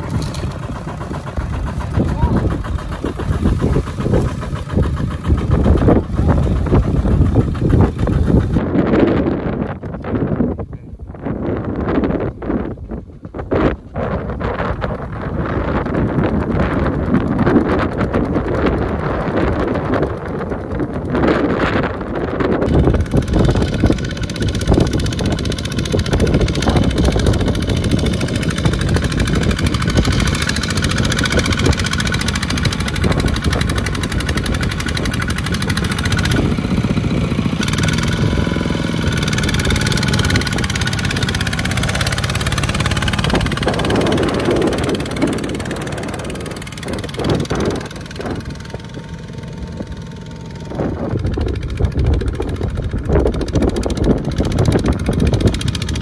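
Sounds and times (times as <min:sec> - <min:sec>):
tractor engine chugging: 0:00.0 - 0:10.3, 0:11.5 - 0:56.0.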